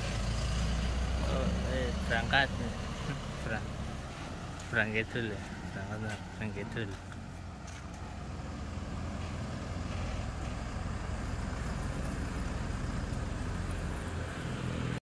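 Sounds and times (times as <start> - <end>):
diesel truck engine pulling away: 0.0 - 15.0.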